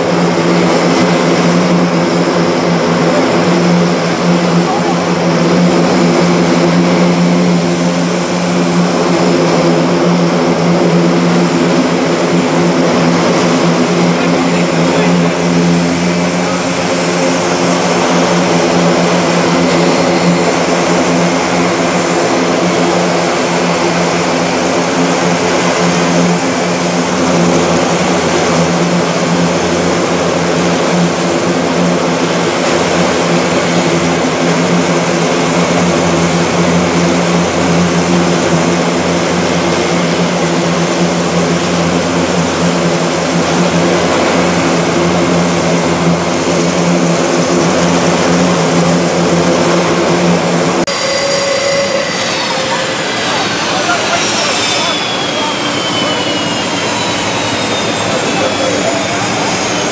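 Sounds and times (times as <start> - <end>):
turboprop engines running: 0.0 - 59.9.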